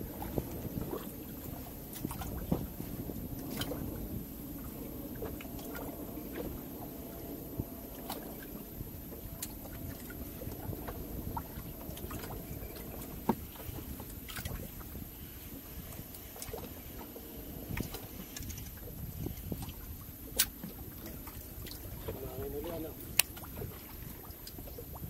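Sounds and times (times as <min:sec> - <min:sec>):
boat low rumble: 0:00.0 - 0:25.0.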